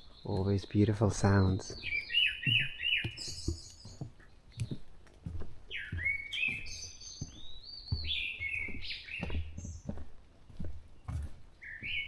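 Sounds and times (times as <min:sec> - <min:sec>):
soft low thumps: 0:00.0 - 0:12.0
songbirds singing: 0:00.0 - 0:12.0.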